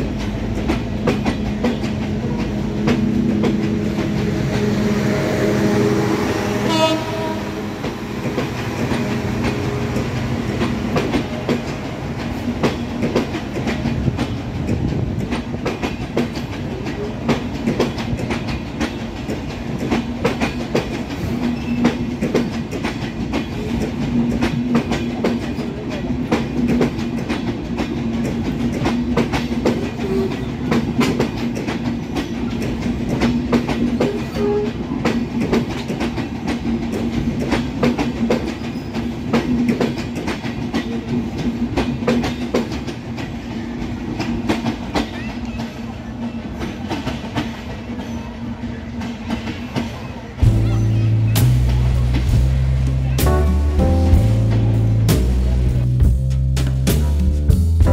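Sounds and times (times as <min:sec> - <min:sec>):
train wheels clattering over rail joints: 0:00.0 - 0:04.4, 0:07.2 - 0:51.0.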